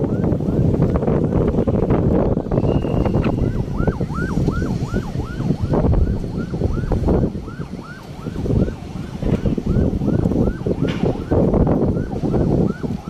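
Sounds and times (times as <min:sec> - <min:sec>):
siren yelping: 0:00.0 - 0:01.5, 0:02.1 - 0:13.0
wind rumble on microphone: 0:00.0 - 0:13.0.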